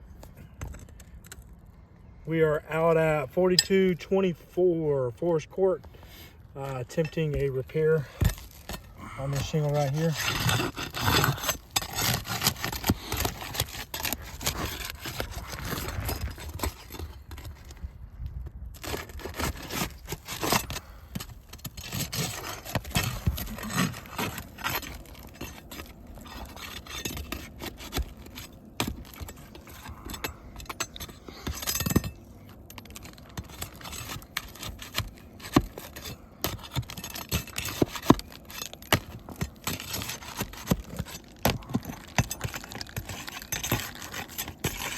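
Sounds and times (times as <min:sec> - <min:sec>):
roof shingle scraping and crackling: 0:00.1 - 0:18.0, 0:18.7 - 0:44.9.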